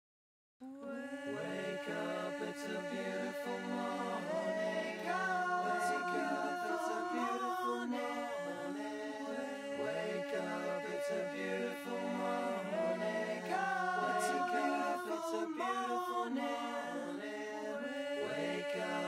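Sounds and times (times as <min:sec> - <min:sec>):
a cappella choir singing: 0:00.6 - 0:19.0.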